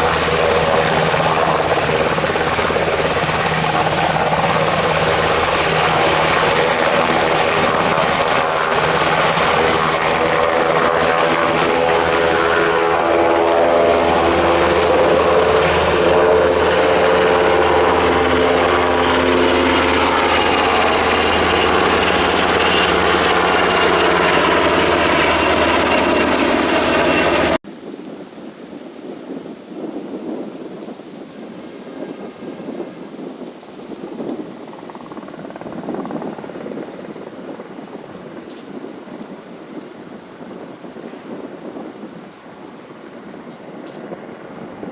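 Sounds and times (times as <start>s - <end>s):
helicopter engines and rotor: 0.0s - 27.6s, 34.0s - 44.9s.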